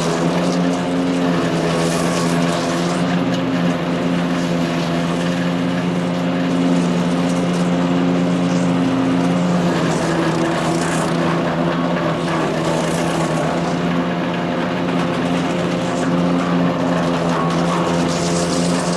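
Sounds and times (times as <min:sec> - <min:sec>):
wood chipper engine droning: 0:00.0 - 0:18.9.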